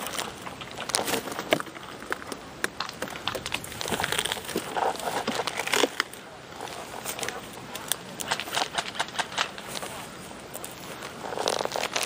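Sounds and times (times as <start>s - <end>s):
grass and brush rustling: 0.0s - 12.0s.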